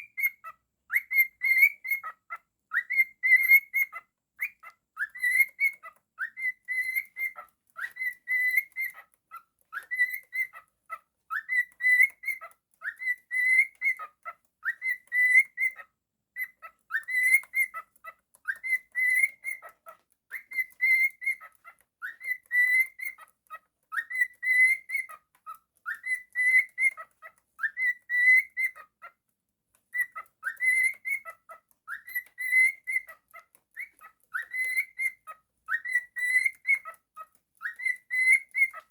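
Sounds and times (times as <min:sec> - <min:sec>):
cockatiel whistling: 0:00.0 - 0:23.3, 0:23.9 - 0:29.1, 0:29.9 - 0:38.9.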